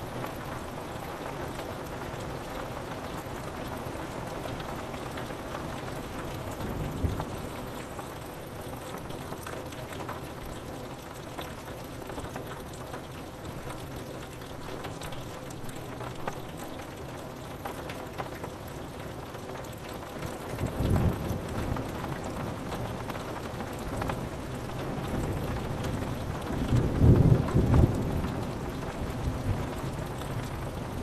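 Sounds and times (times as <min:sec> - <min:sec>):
rain on a window: 0:00.0 - 0:31.0.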